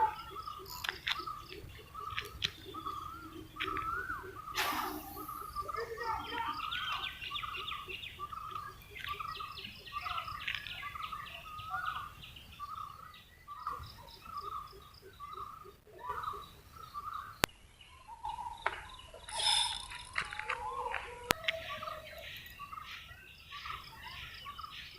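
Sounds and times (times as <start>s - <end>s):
birds calling and chirping: 0.0s - 24.9s.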